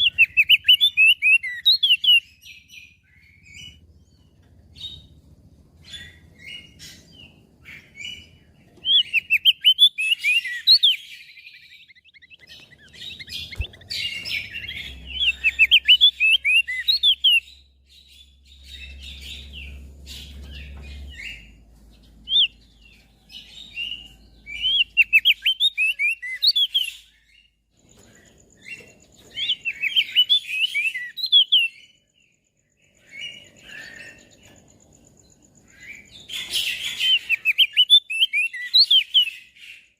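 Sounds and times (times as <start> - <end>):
bird twittering: 0.0 - 5.2, 5.8 - 32.1, 32.8 - 39.9
soft bird chirps: 0.0 - 39.9.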